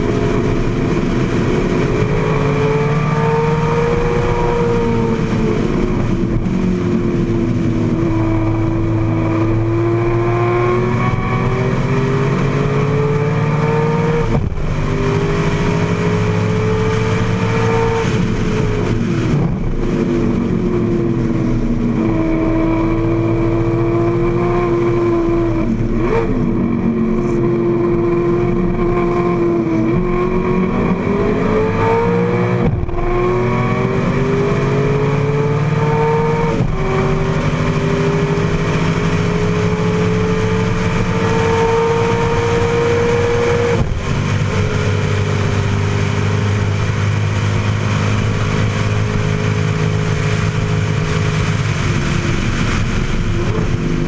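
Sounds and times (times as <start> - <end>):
racing car engine revving: 0.0 - 54.0
steady rush of noise: 0.0 - 54.0.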